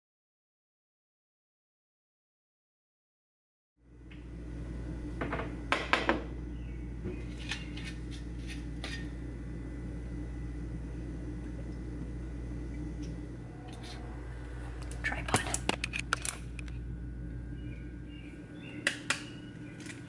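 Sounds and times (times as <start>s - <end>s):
steady low hum: 3.8s - 20.0s.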